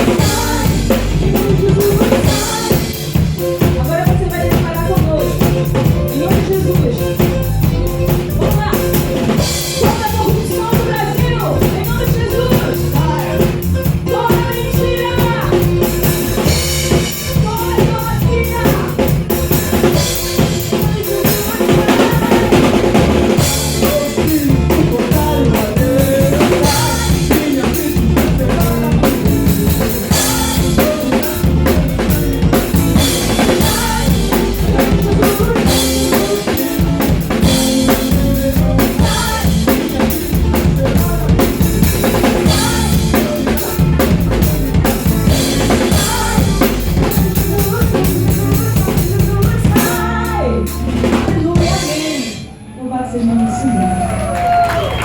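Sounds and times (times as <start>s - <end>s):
drum kit beat: 0.0s - 52.5s
gospel band playing: 0.0s - 55.0s.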